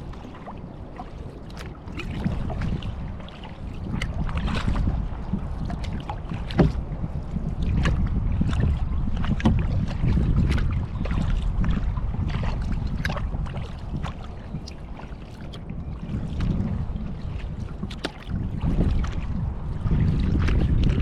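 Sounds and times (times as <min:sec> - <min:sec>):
paddle water splashing: 0:00.0 - 0:21.0
wind on microphone: 0:00.0 - 0:21.0.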